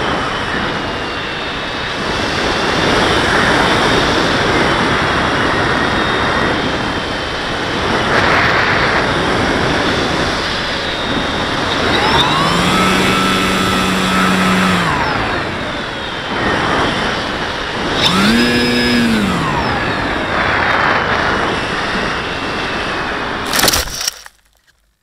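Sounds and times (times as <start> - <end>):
motor and propeller whine: 0.0 - 24.3.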